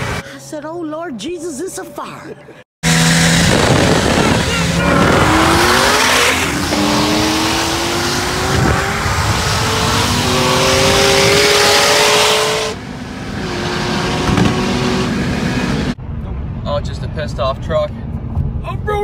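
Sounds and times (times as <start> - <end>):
wind and road noise: 0.0 - 0.4, 2.8 - 19.0
car engines at full throttle: 2.8 - 19.0.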